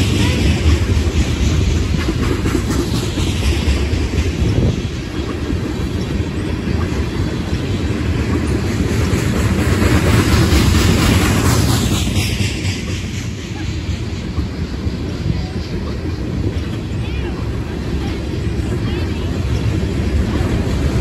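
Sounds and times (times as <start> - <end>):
train rolling past: 0.0 - 21.0.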